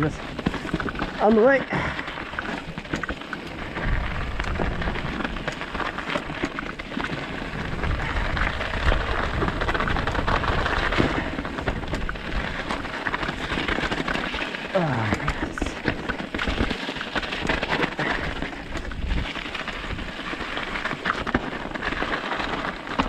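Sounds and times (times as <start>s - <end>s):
bike rattling: 0.0s - 23.0s
tyres crunching over stones: 0.0s - 23.0s
wind rumble on microphone: 0.0s - 23.0s.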